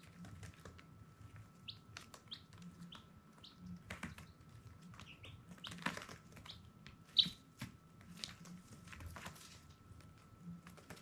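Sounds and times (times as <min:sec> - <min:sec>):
chicks pecking and scratching: 0:00.0 - 0:11.0.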